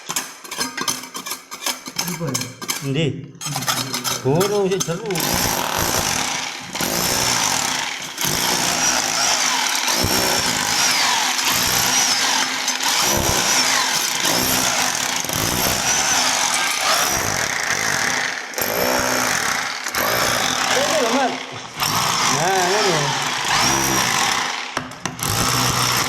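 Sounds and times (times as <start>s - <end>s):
hammer drill chiselling concrete: 3.4s - 26.0s.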